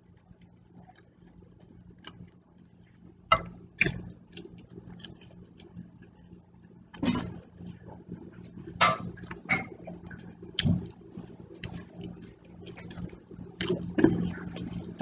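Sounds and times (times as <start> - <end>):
faint steady hum: 0.0 - 15.0
person chewing food: 0.1 - 15.0.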